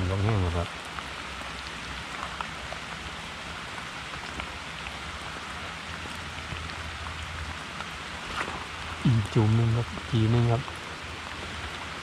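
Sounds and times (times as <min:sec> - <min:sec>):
rain falling: 0:00.0 - 0:12.0
raindrops ticking close by: 0:00.0 - 0:12.0.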